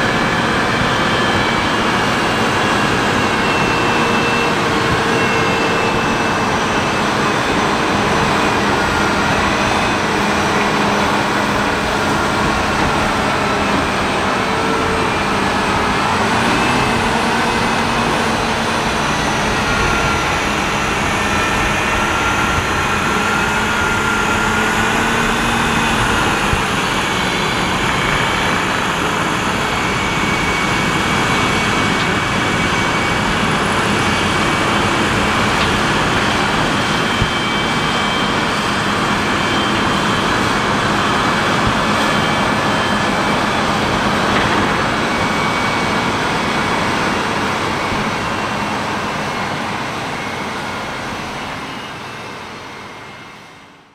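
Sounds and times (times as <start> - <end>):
diesel engines with high whine: 0.0 - 53.9.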